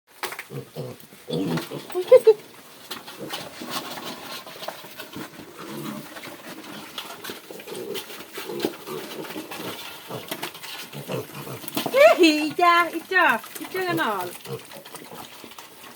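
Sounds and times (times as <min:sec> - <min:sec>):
pigs grunting: 0:00.4 - 0:15.9.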